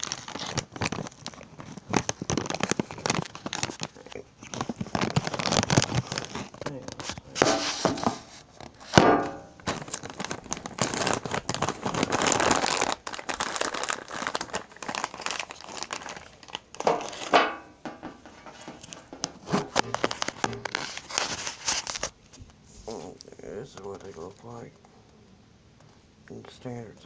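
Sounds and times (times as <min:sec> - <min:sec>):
wrappers crinkling and tearing: 0:00.0 - 0:22.2, 0:22.9 - 0:24.6.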